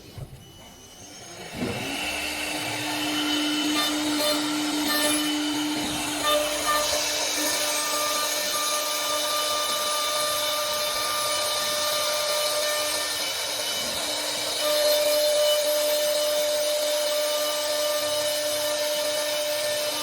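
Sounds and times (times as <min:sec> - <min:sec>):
drilling machine spindle whine: 0:00.0 - 0:20.0.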